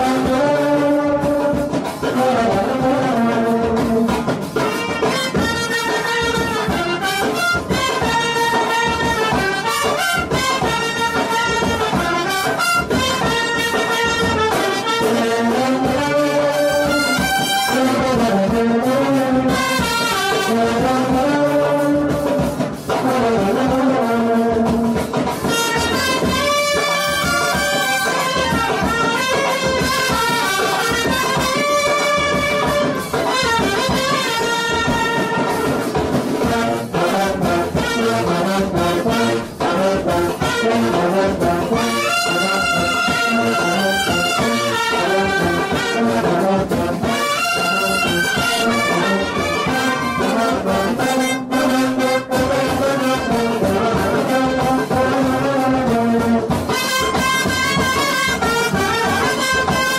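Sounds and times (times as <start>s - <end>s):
brass band music: 0.0s - 59.9s
steady drum beat: 0.0s - 59.9s.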